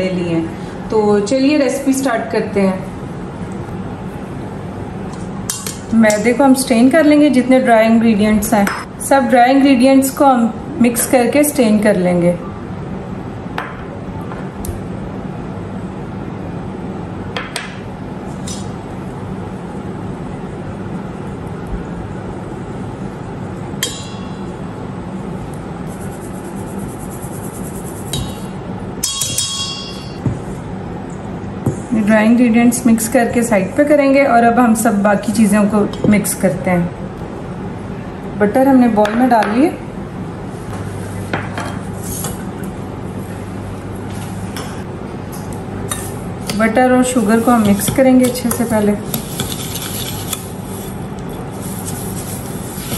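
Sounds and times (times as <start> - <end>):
low hum and hiss: 0.0 - 52.9.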